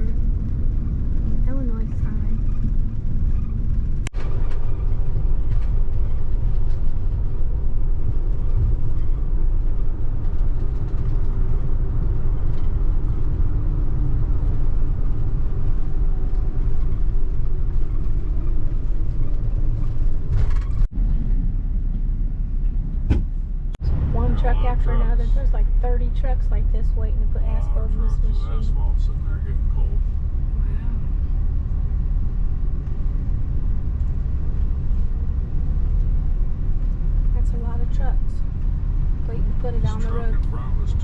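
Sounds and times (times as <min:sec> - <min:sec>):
vehicle engine and road rumble: 0:00.0 - 0:41.0.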